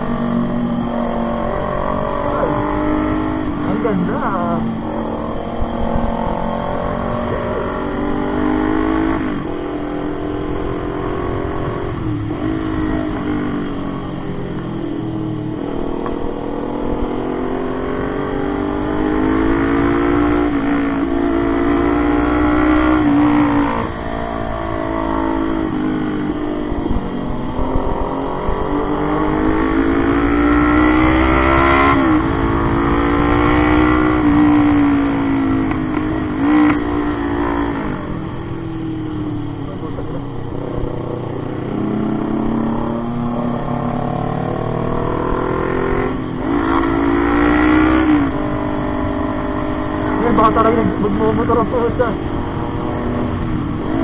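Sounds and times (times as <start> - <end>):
low wind rumble: 0.0 - 54.0
motorcycle engine revving: 0.0 - 54.0.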